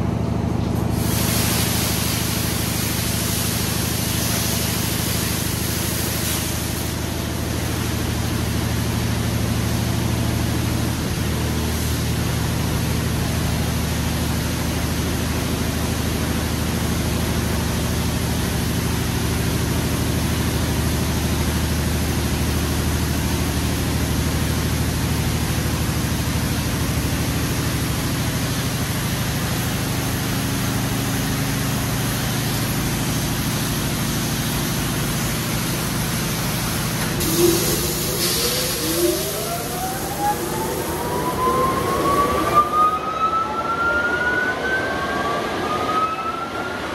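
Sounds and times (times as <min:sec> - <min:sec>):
car wash rushing hiss: 0:00.9 - 0:42.8.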